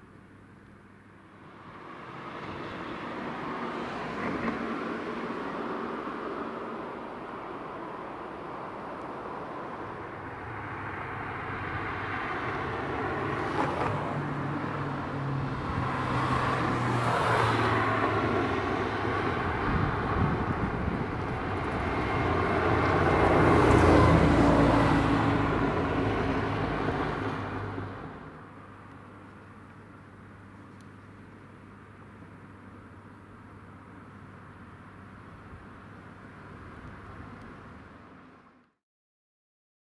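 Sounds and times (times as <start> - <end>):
road vehicles passing: 0.0 - 38.8.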